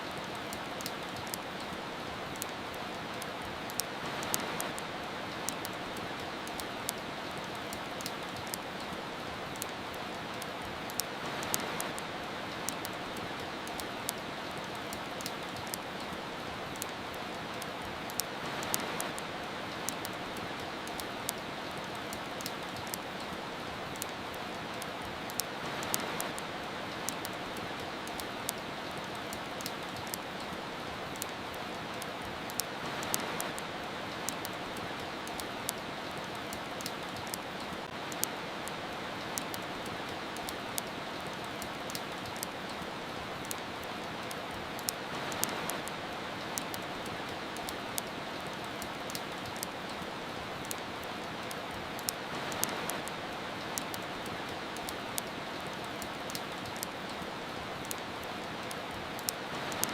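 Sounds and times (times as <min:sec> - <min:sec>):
rain hiss: 0:00.0 - 0:59.9
wood fire crackling: 0:00.1 - 0:59.9.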